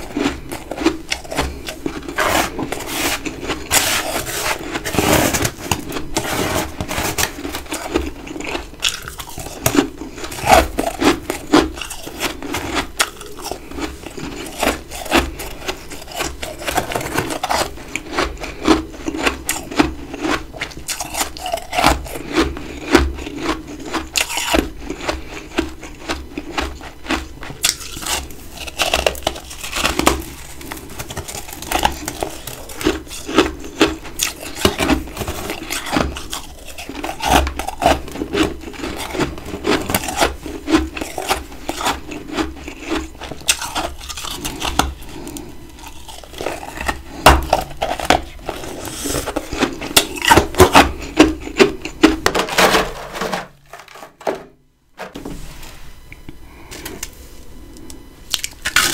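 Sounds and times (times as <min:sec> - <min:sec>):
chewing crunchy ice: 0:00.0 - 0:54.3, 0:57.8 - 0:58.9.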